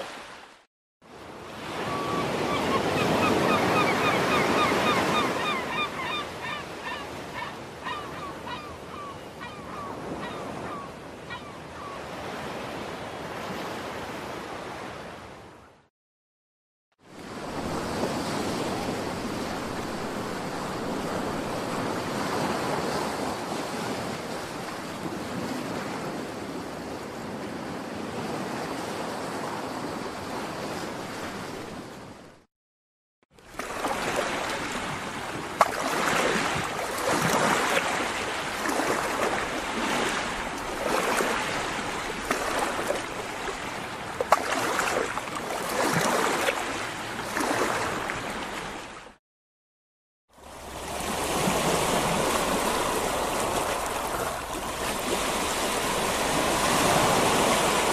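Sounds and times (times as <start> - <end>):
ocean waves: 0.0 - 15.8, 17.0 - 32.5, 33.4 - 49.2, 50.3 - 57.9.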